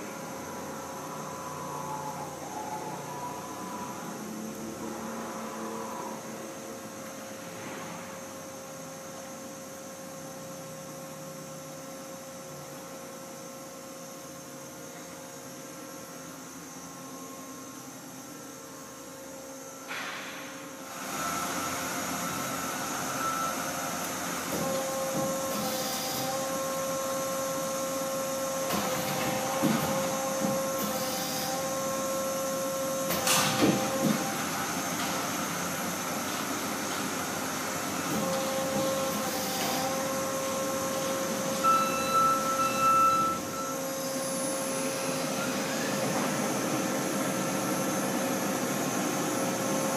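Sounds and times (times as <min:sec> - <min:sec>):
lathe running with whining hum: 0:00.0 - 0:19.9, 0:20.6 - 0:49.9.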